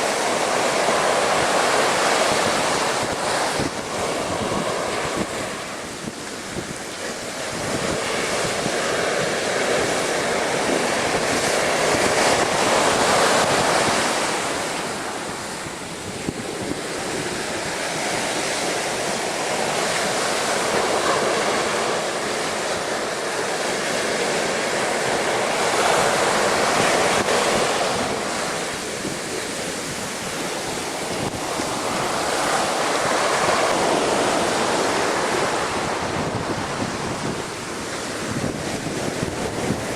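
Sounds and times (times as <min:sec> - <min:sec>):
waves breaking against sea wall: 0:00.0 - 0:39.9
wind buffeting microphone: 0:00.0 - 0:39.9.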